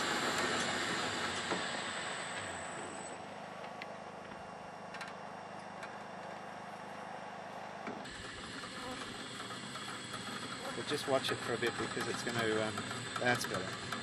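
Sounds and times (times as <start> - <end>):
winch mechanical hum: 0.0 - 14.0.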